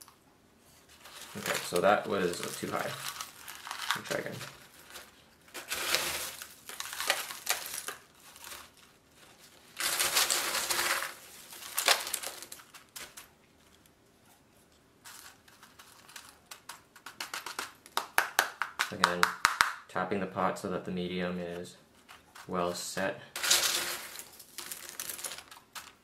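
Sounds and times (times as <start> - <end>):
rustling potting mix: 0.0 - 18.2, 21.1 - 26.0
potting mix rattling and crunching: 0.8 - 14.0, 14.6 - 19.3, 21.9 - 26.0.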